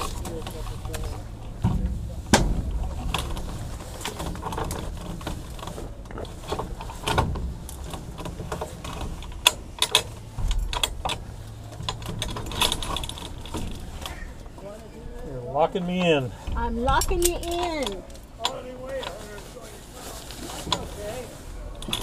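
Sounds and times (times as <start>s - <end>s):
clothing rustle: 0.0s - 22.0s.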